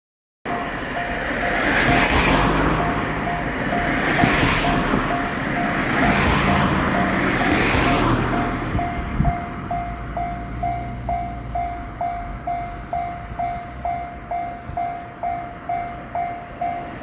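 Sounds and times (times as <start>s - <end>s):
railroad crossing bell: 0.5s - 17.0s.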